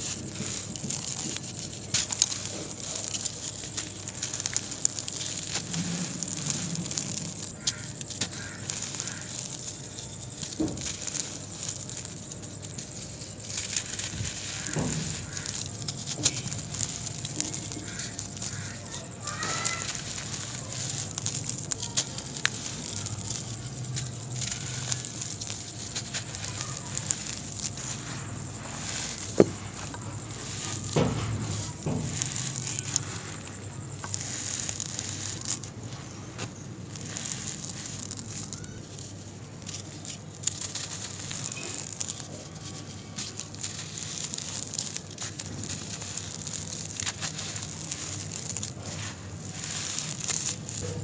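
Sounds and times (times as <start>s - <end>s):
gritty crunching and crackling: 0.0s - 51.0s
powder sifting through fingers: 0.0s - 51.0s.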